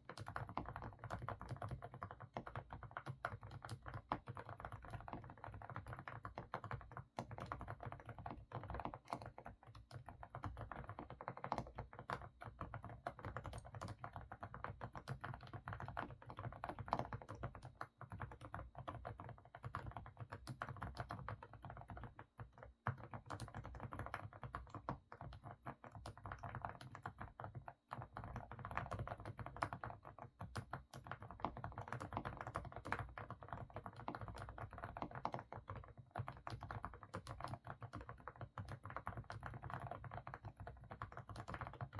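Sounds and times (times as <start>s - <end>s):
fast typing on mechanical keyboard: 0.0s - 41.9s.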